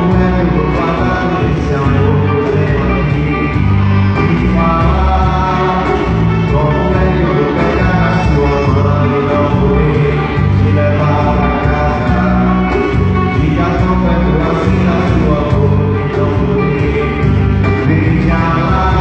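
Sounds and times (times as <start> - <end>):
live band with singing: 0.0 - 19.0.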